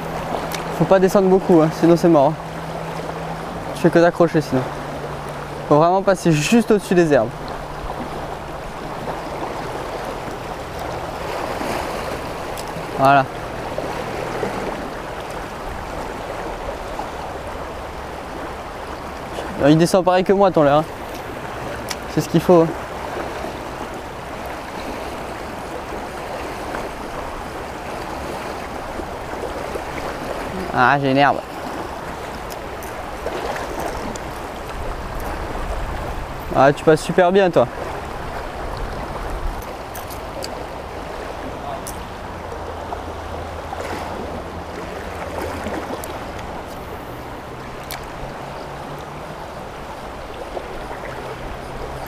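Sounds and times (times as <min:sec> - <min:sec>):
fast river rushing over stones: 0:00.0 - 0:52.0.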